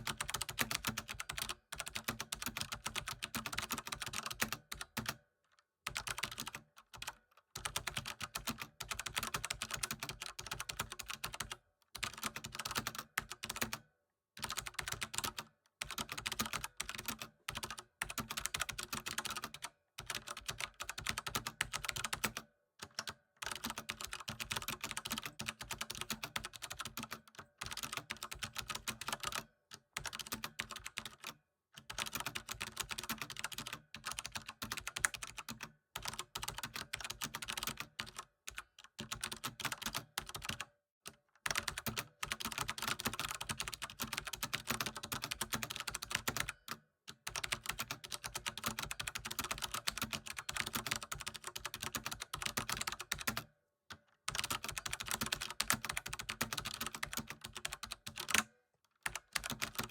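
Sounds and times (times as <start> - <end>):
fast typing on keyboard: 0.0 - 5.2, 5.9 - 13.8, 14.4 - 53.5, 54.3 - 59.9.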